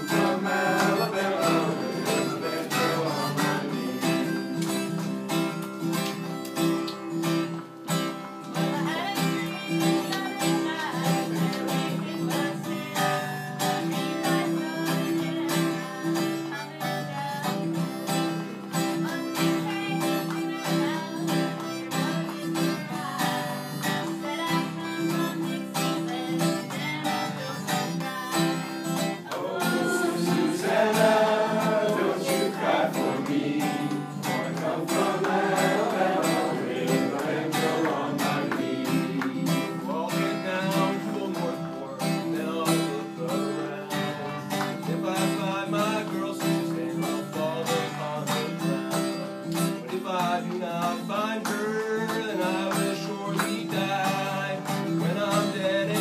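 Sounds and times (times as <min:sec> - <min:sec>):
strummed acoustic guitar: 0:00.0 - 0:56.0.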